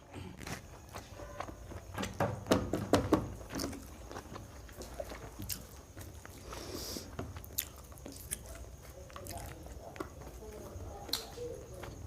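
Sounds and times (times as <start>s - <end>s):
person chewing food: 0.0s - 2.2s, 3.4s - 12.0s.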